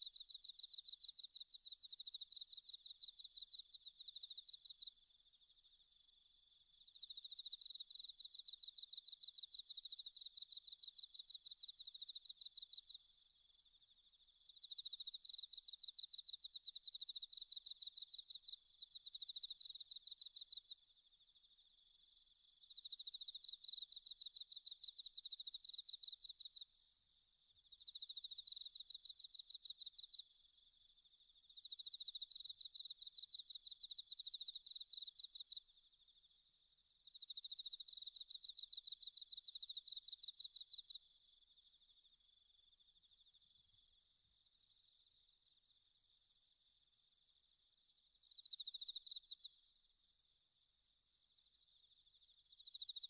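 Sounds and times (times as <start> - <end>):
insect chirping trills: 0.0 - 53.0.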